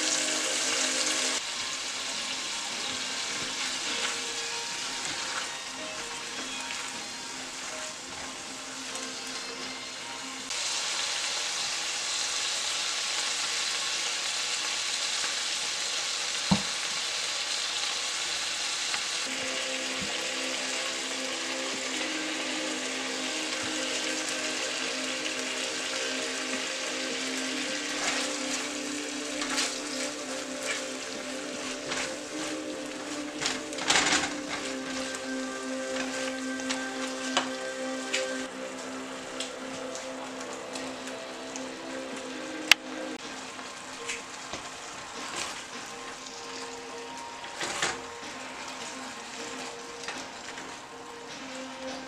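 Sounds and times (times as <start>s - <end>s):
shrimp sizzling in oil: 0.0s - 52.0s.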